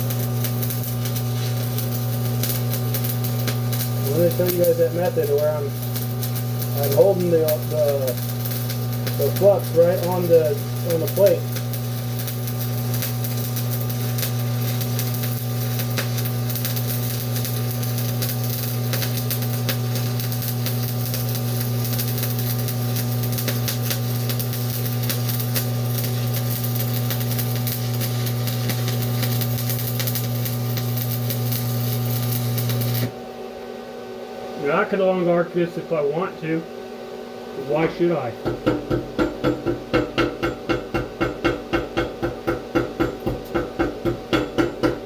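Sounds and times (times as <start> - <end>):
welding arc crackling: 0.0 - 33.2, 37.6 - 45.0.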